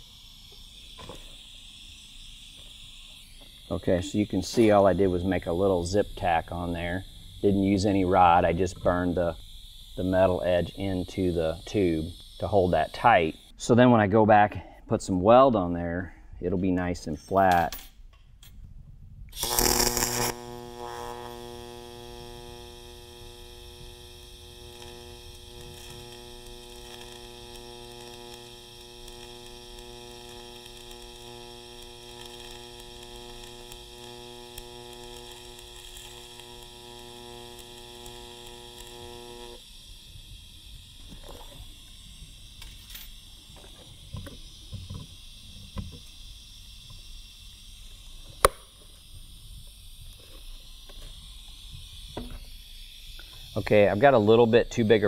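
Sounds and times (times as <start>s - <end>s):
welding arc striking: 0.0s - 13.5s, 19.4s - 55.0s
welding arc buzz and hiss: 0.0s - 13.7s, 19.3s - 55.0s.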